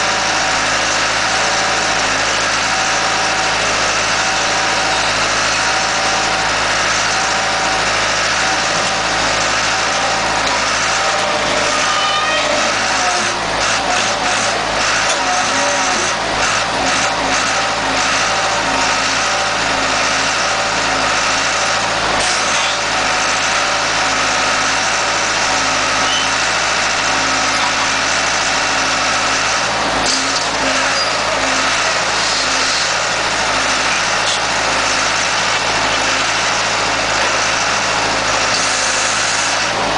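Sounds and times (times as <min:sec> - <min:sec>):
scrap metal baler engine pulsing: 0:00.0 - 0:39.9.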